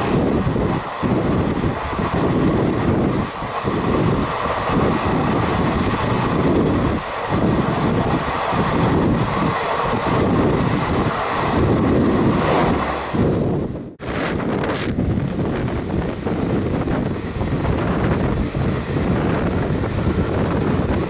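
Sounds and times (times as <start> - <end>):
trains rushing past: 0.0 - 21.0
wind noise on microphone: 0.0 - 21.0.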